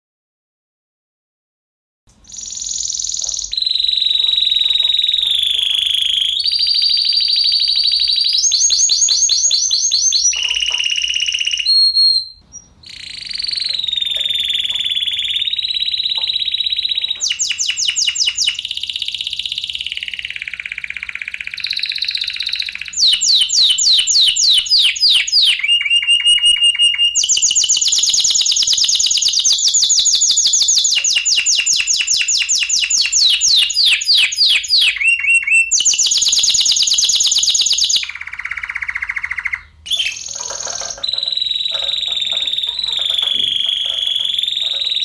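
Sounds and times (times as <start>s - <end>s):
canaries singing trills: 2.3s - 45.0s.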